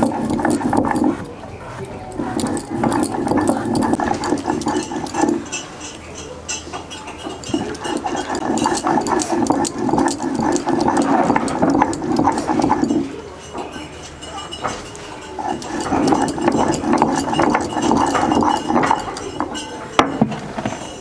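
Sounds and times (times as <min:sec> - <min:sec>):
stone rolling and grinding on stone: 0:00.0 - 0:06.1, 0:06.8 - 0:21.0.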